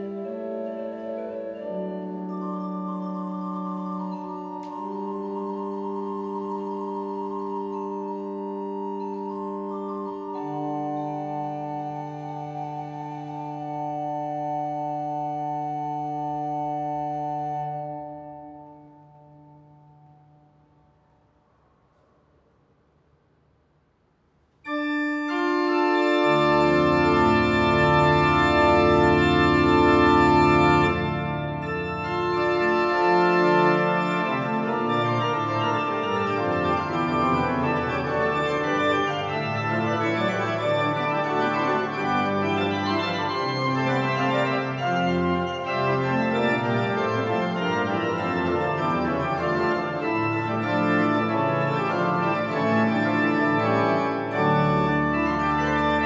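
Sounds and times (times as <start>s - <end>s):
pipe organ playing: 0.0s - 20.4s, 24.7s - 56.0s.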